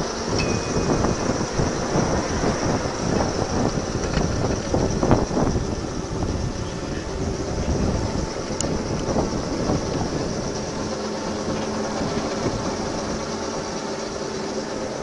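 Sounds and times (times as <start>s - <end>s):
steel wheels rumbling on rail: 0.0s - 15.0s
wind noise on microphone: 0.0s - 15.0s.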